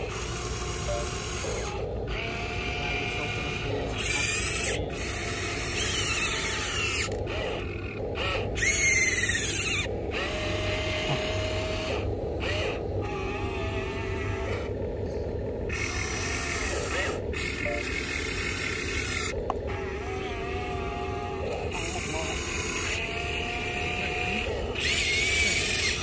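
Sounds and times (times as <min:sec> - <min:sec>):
small electric motors whining: 0:00.0 - 0:26.0.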